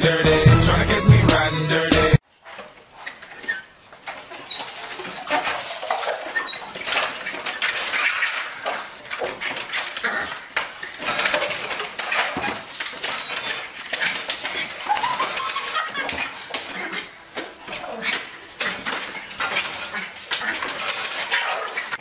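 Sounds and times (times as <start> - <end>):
dogs scrabbling against door: 4.0 - 22.0.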